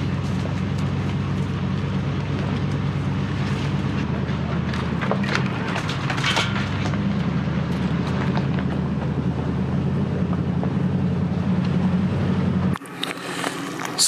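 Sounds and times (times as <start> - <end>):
road and tyre noise: 0.0 - 14.0
vehicle engine hum: 0.0 - 14.0.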